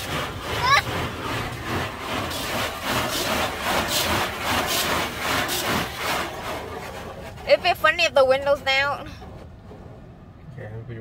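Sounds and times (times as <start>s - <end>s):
car wash machinery scrubbing: 0.0s - 11.0s.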